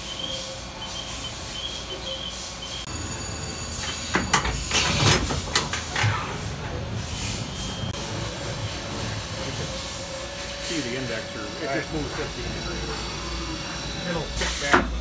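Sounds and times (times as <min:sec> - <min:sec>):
air hissing: 0:00.0 - 0:15.0
machine high whine: 0:00.0 - 0:15.0.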